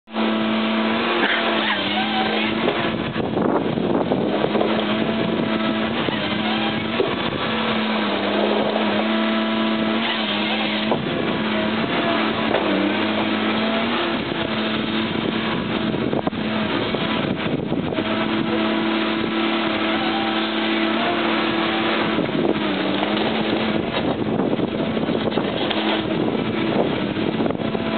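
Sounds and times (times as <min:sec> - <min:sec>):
harvester diesel engine revving: 0:00.1 - 0:27.9.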